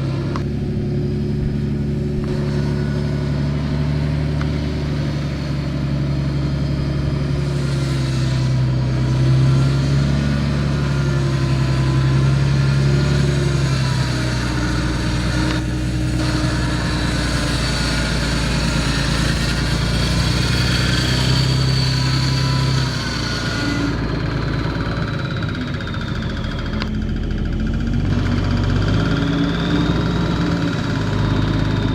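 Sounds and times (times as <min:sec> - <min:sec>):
truck engine running: 0:00.0 - 0:31.9.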